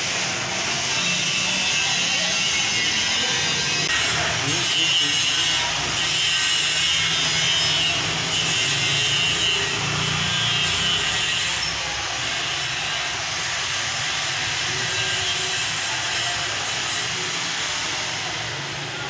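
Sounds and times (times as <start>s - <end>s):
street traffic drone: 0.0s - 19.0s.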